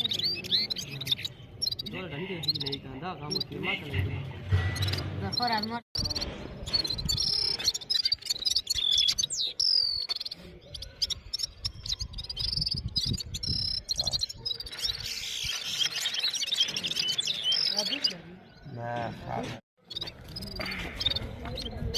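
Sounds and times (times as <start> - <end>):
bird twittering and trilling: 0.0 - 21.9.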